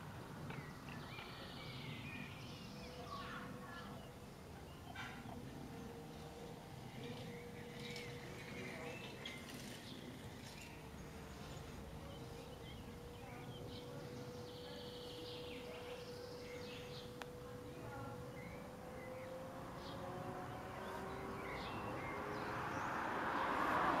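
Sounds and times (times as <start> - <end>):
small birds chirping: 0.4 - 24.0.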